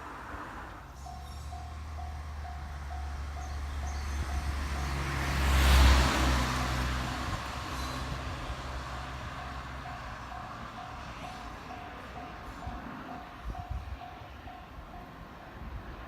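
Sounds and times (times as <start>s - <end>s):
electric train rumbling past: 0.0s - 16.0s.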